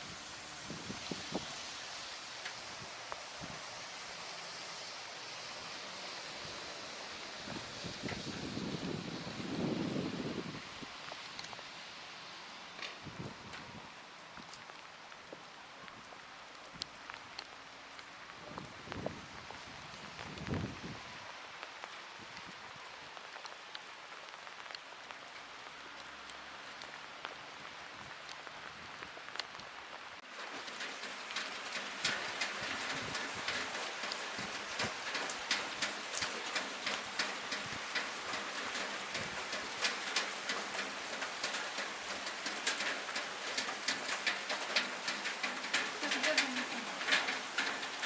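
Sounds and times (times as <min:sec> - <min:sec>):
rain drumming on window ledge: 0:00.0 - 0:48.0.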